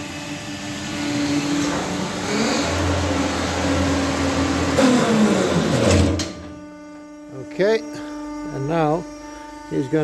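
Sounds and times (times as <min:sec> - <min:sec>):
band sawmill mechanical hum: 0:00.0 - 0:10.0.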